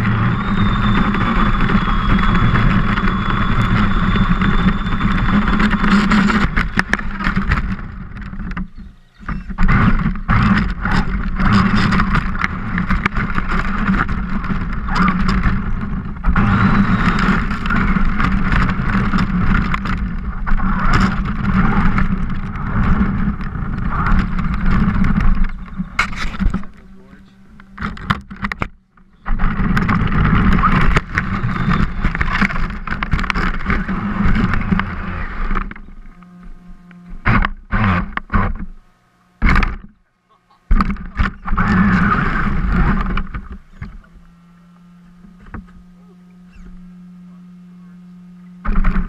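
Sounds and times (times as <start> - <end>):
toy car motor whine: 0.0 - 28.2, 29.2 - 38.7, 41.3 - 49.0
rattles and knocks over rough ground: 0.0 - 36.5, 39.4 - 40.0, 40.7 - 44.4, 45.1 - 46.9, 48.6 - 49.0.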